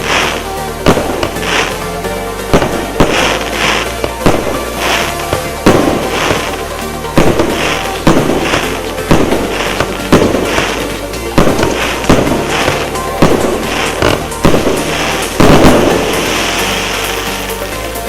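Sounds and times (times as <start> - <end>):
background music: 0.0 - 18.0
firework crackling: 0.0 - 18.0
firework shots: 0.0 - 18.0.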